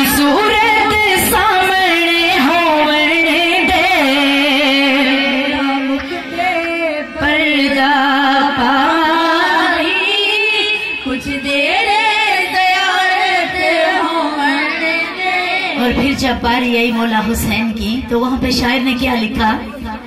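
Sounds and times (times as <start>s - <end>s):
woman singing devotional verse: 0.0s - 20.0s.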